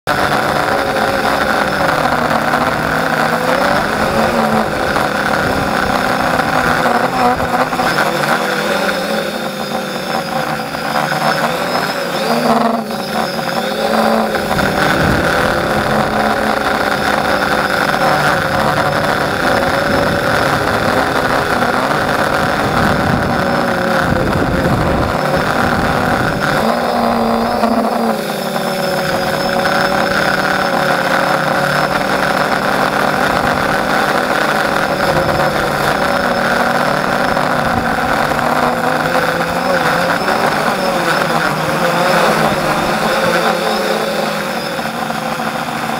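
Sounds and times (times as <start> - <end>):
quadcopter motors whining: 0.0 - 45.9.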